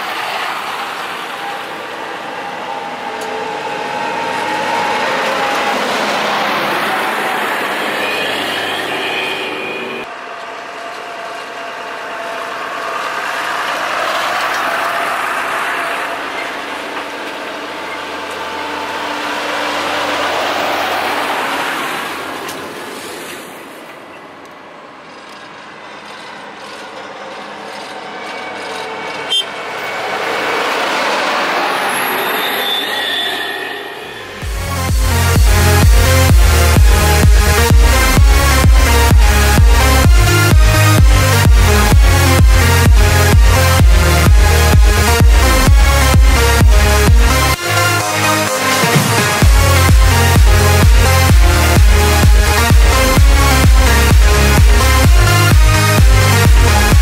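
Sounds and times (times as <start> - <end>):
heavy machinery driving past: 0.0 - 57.0.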